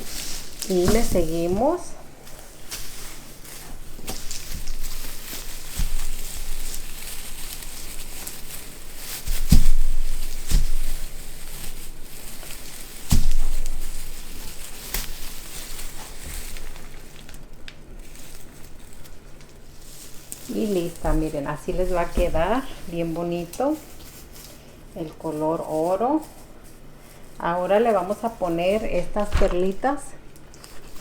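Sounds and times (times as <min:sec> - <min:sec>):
ribbon crinkling and rustling: 0:00.0 - 0:31.0.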